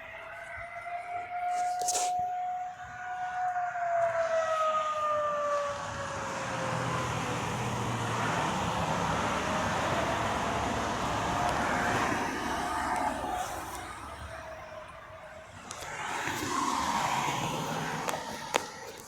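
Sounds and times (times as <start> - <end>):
car passing: 0.0 - 19.0
warning siren tone: 0.0 - 19.0.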